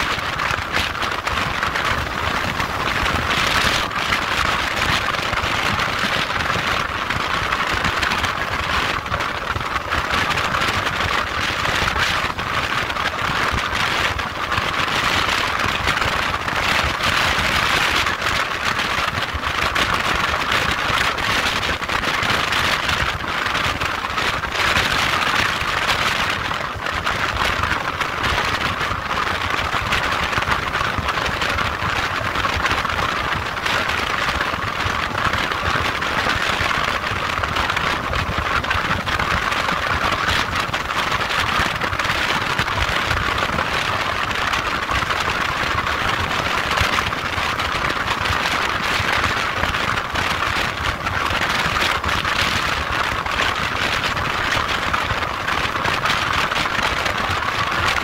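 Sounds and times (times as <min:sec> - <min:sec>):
motorcycle engine and road noise: 0:00.0 - 0:58.0
rushing wind hiss: 0:00.0 - 0:58.0.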